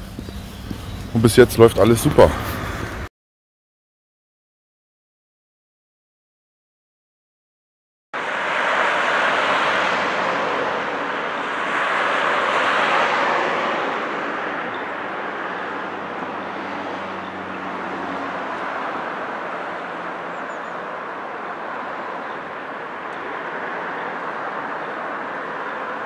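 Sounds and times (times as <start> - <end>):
cars passing: 0.0 - 3.1, 8.2 - 26.0.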